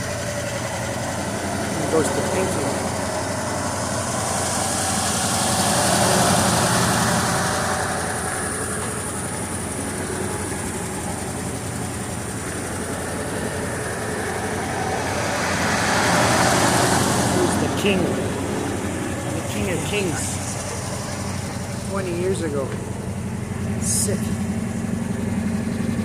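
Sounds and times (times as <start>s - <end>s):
road noise: 0.0s - 26.0s
vehicle engine running: 0.0s - 26.0s.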